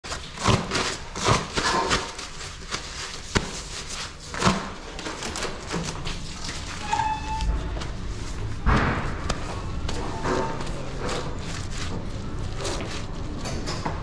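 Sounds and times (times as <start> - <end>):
paper towels rustling: 0.0 - 14.0.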